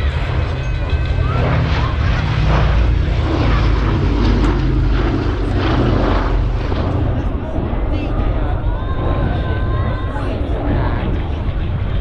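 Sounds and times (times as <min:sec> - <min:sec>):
propeller aircraft in flight: 0:00.0 - 0:12.0.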